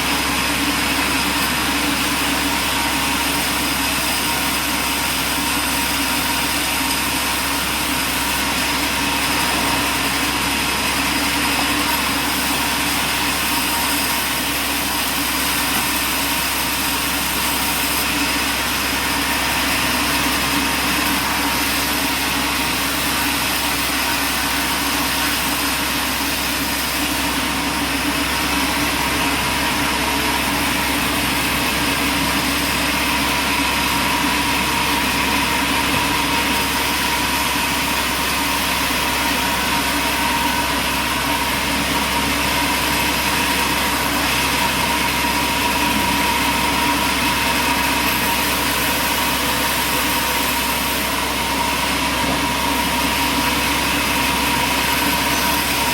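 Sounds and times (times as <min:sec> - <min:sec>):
sawmill machinery humming: 0:00.0 - 0:55.9.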